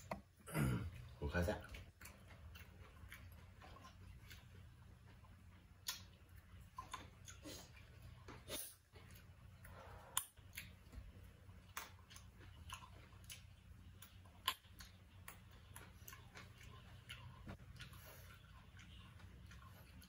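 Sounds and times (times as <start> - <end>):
faint steady low hum: 0.0 - 20.0
man chewing with lip smacks: 0.0 - 20.0.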